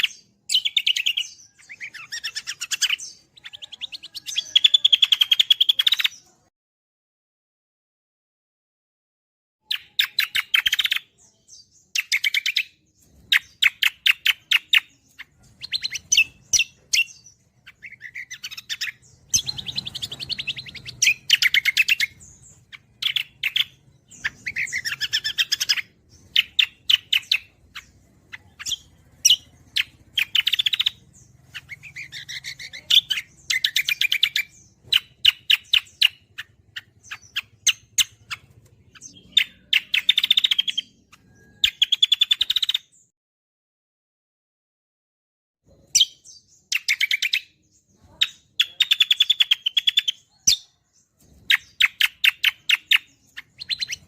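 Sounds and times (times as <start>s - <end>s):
songbird chattering song: 0.0s - 6.5s, 9.6s - 43.1s, 45.7s - 54.0s.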